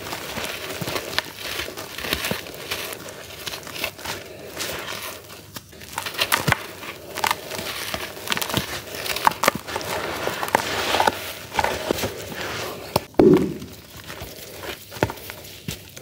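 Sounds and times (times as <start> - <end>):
hands crumbling charcoal under water: 0.0 - 16.0.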